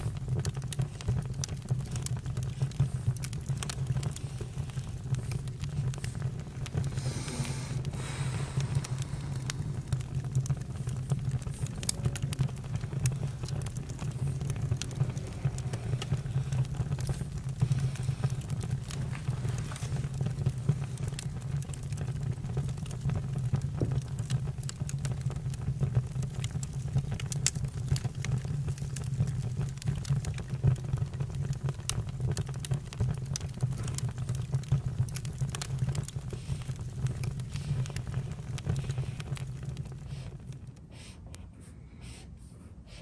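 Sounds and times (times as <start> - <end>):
campfire pops and snaps: 0.0 - 40.8
low rumble of fire: 0.0 - 41.1.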